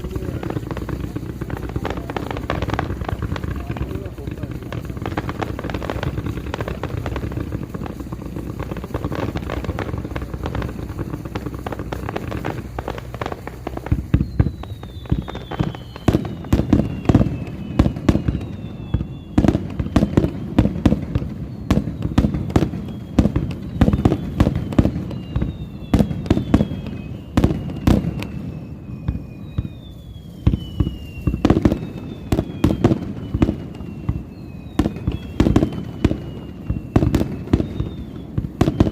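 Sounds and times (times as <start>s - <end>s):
falling fireworks whistles: 0.0s - 38.9s
fireworks bangs: 0.0s - 38.9s
fireworks crackling: 0.0s - 38.9s.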